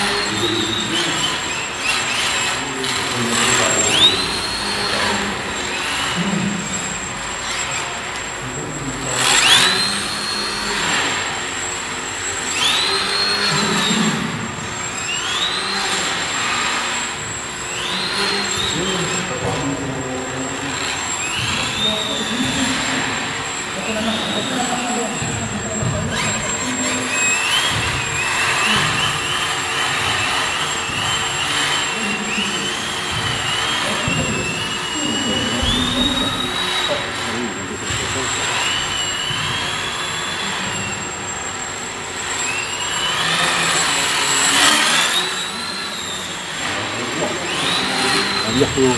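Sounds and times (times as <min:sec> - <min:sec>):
machine motors whining: 0:00.0 - 0:48.9.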